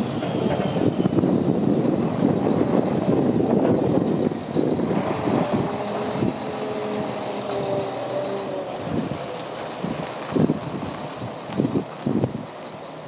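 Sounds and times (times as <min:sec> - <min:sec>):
truck diesel engine under load: 0:00.0 - 0:13.0.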